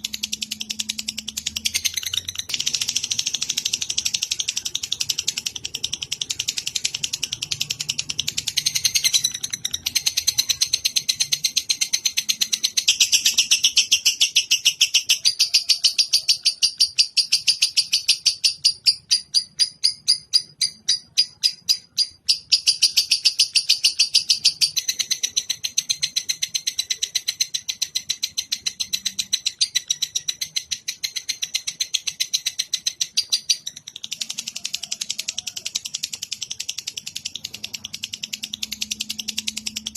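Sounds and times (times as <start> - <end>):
lovebird chattering: 0.0 - 39.9.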